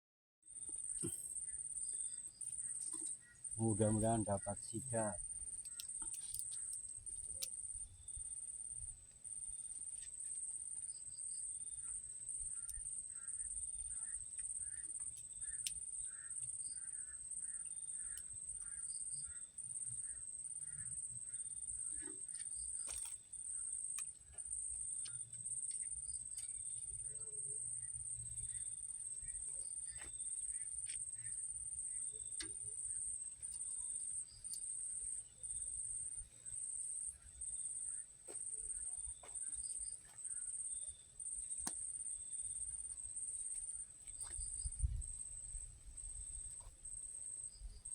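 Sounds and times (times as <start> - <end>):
insects trilling: 0.5 - 47.9
low insect calls: 0.5 - 47.9.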